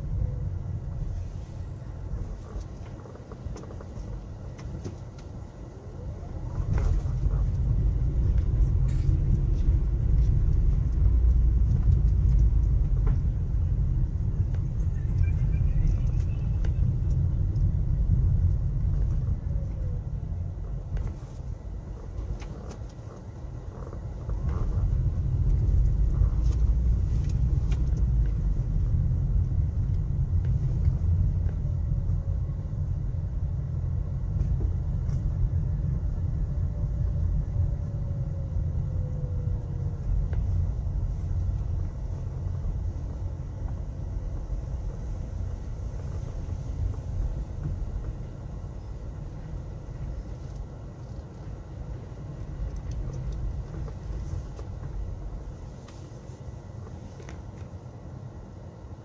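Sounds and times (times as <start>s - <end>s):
car driving rumble from inside: 0.0s - 59.0s.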